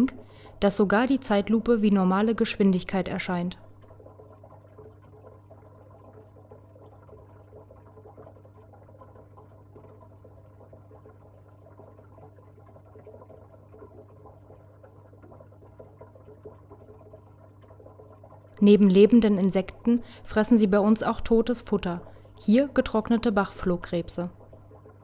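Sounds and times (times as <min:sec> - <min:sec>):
low electrical hum: 0:00.0 - 0:25.0
water trickling: 0:00.0 - 0:25.0.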